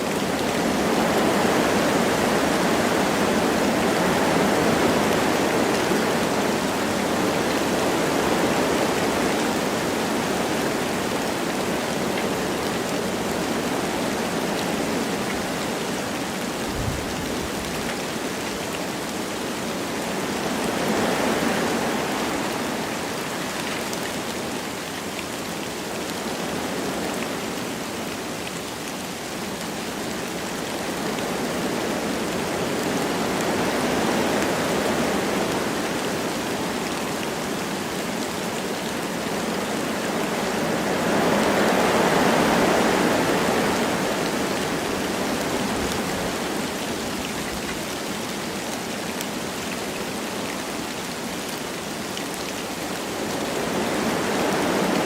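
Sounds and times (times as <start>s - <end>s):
light rain falling: 0.0s - 55.0s
wind through forest trees: 0.0s - 55.0s.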